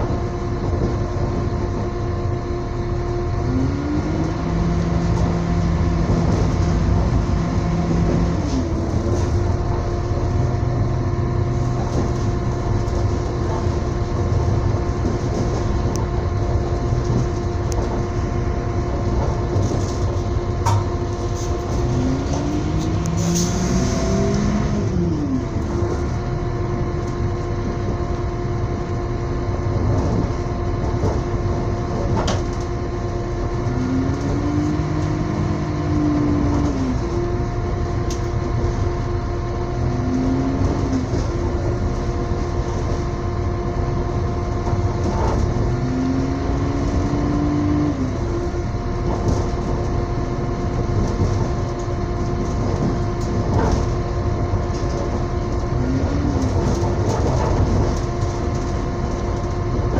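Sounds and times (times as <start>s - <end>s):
constant hum: 0.0s - 59.9s
train wheels rumbling on rail: 0.0s - 59.9s
whine rising in pitch: 0.0s - 59.9s.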